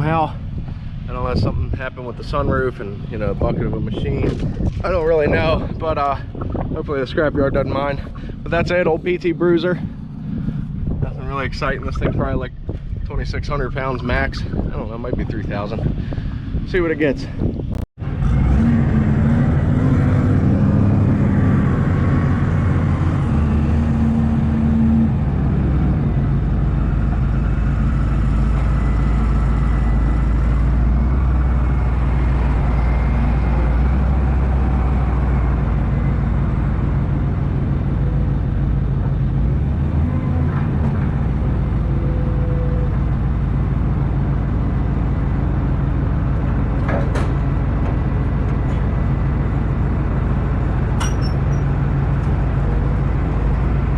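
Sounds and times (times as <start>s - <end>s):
truck engine droning: 0.0s - 53.9s.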